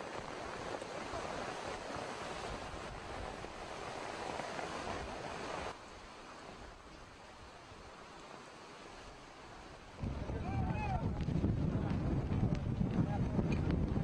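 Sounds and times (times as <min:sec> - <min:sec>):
hurricane wind: 0:00.0 - 0:14.0
surf rushing: 0:00.0 - 0:14.0.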